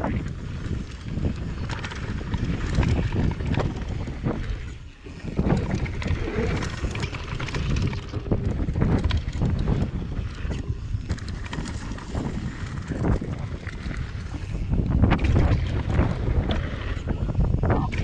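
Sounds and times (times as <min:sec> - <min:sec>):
bike rattling over bumps: 0:00.0 - 0:18.0
tyres on packed dirt: 0:00.0 - 0:18.0
wind buffeting microphone: 0:00.0 - 0:18.0.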